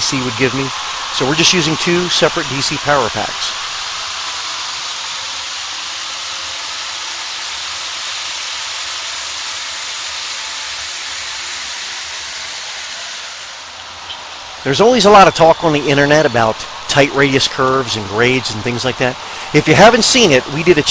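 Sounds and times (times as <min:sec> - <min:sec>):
model trains running on track: 0:00.0 - 0:20.9.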